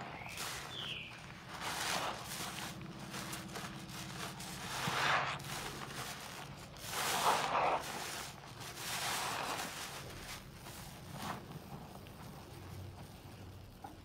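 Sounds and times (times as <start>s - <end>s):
sponge squelching: 0.0s - 11.4s.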